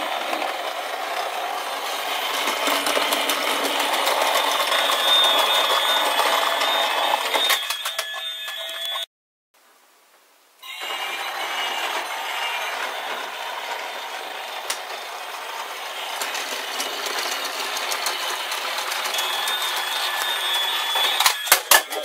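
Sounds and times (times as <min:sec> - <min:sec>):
toy train motor whir: 0:00.0 - 0:09.0, 0:10.6 - 0:22.0.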